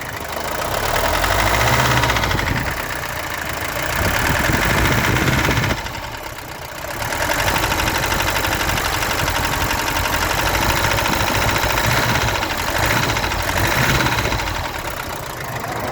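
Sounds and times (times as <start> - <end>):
diesel engine idling with knocking: 0.0 - 15.9.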